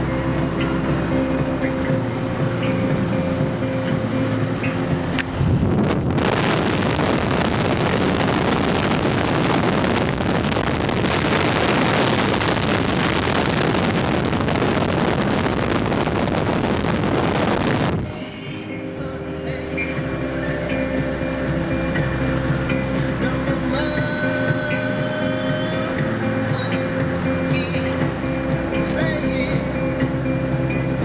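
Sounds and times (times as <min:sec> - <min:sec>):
music with steady tones: 0:00.0 - 0:31.0
wind buffeting microphone: 0:00.0 - 0:31.0.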